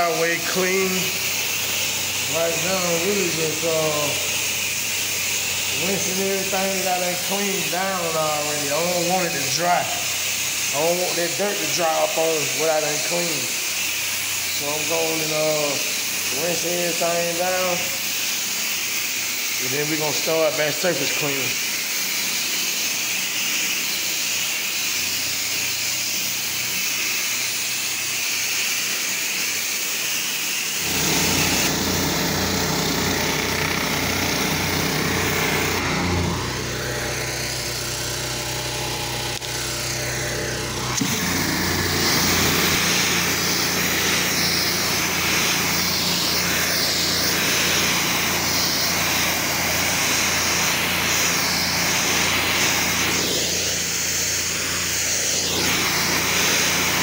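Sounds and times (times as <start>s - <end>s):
water jet spray hiss: 0.0s - 57.0s.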